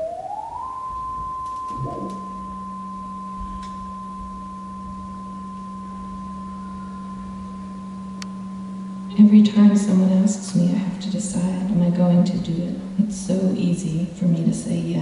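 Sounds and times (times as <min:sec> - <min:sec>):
high sine tone: 0:00.0 - 0:15.0
low steady sine tone: 0:00.0 - 0:15.0.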